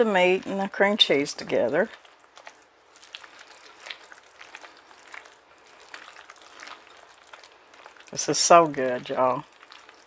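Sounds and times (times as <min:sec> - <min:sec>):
spoon squishing thick filling: 0:00.0 - 0:10.0.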